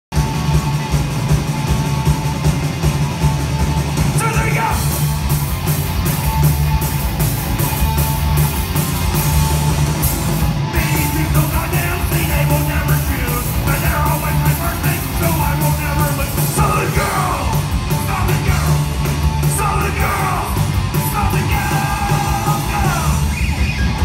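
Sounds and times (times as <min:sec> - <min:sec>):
live rock band playing: 0:00.1 - 0:24.0.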